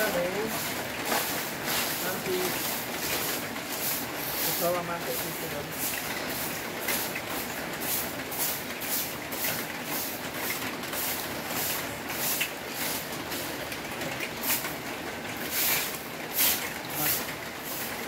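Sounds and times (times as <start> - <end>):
broom sweeping concrete: 0.0 - 13.6, 14.4 - 14.7, 15.4 - 18.0
steady hiss: 0.0 - 13.6, 15.4 - 18.0.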